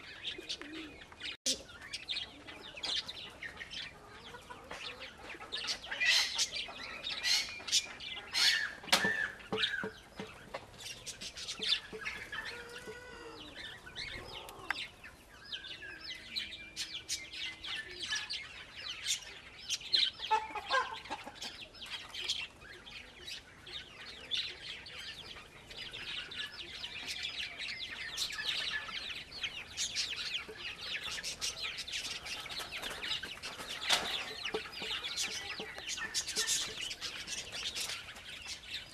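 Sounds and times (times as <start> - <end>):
pigeons chirping and calling: 0.0 - 38.9
lower curving bird calls: 4.0 - 38.9.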